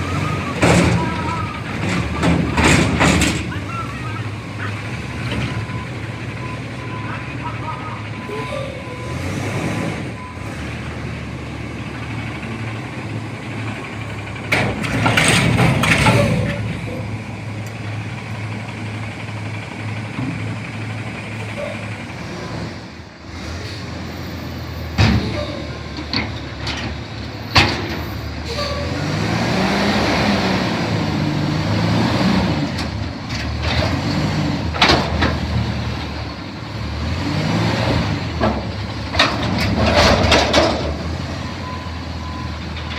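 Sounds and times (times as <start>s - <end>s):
garbage truck engine running: 0.0s - 42.9s.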